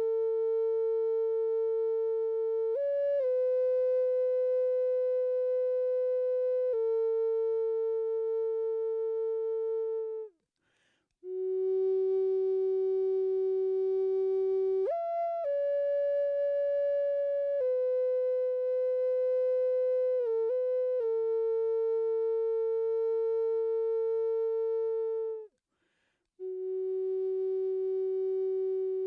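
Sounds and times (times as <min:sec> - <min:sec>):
flute playing slow melody: 0:00.0 - 0:10.4, 0:11.2 - 0:29.0.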